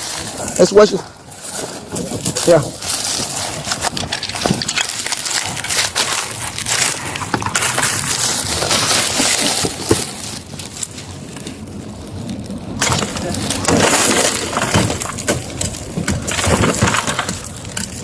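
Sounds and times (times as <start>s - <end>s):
footsteps crunching through dry brush: 0.0s - 16.4s.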